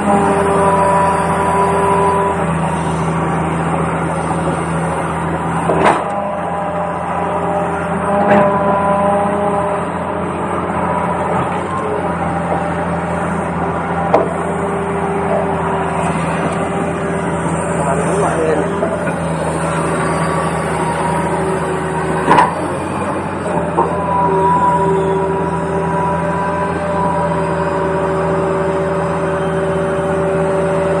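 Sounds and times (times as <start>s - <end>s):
toy excavator motor hum: 0.0s - 31.0s.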